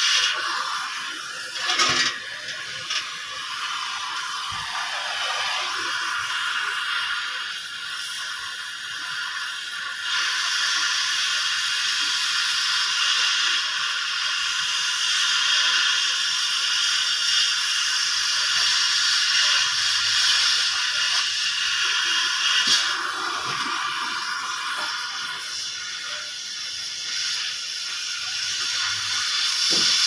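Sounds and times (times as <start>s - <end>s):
arc welding crackling hiss: 0.0s - 30.0s.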